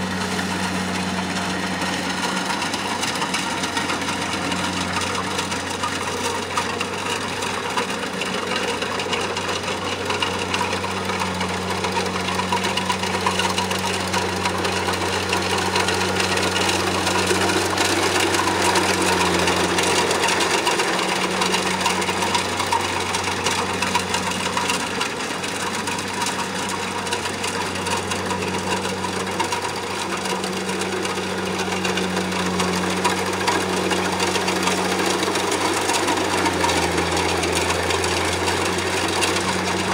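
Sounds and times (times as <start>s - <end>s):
combine harvester diesel engine running: 0.0s - 39.9s.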